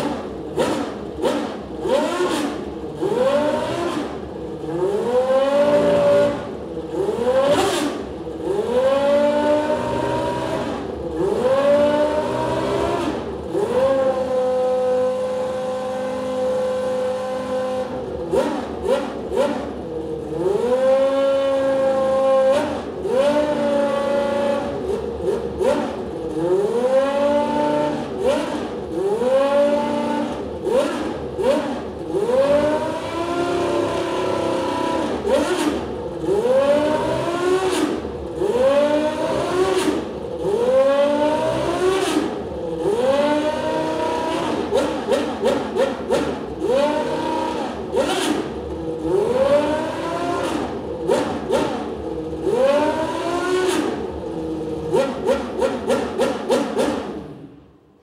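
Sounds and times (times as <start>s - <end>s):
racing engine revving: 0.0s - 57.6s.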